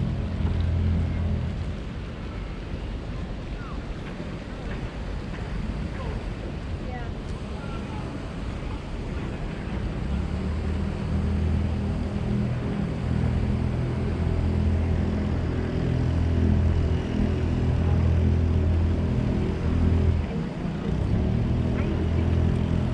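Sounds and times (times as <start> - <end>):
low engine hum: 0.0 - 22.9.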